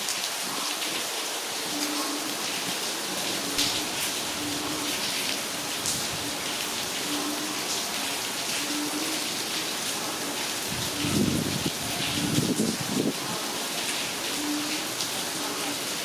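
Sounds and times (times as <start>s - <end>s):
heavy rain falling: 0.0s - 16.0s
raindrops splashing: 0.0s - 16.0s.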